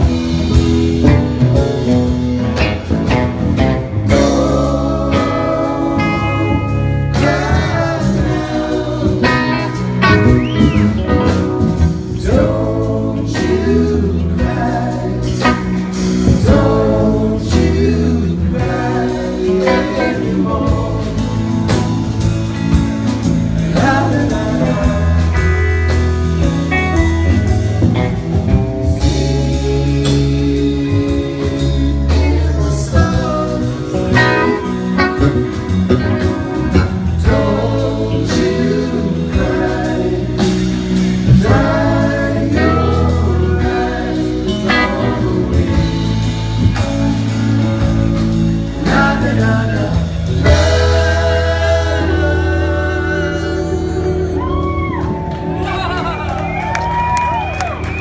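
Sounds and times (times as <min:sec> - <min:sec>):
steady drum beat: 0:00.0 - 0:52.8
bass guitar: 0:00.0 - 0:58.0
electric guitar: 0:00.0 - 0:58.0.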